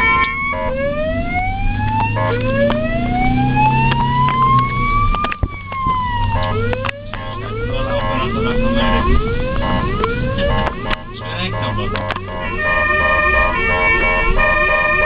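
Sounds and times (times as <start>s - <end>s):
ambulance siren wailing: 0.0s - 15.0s.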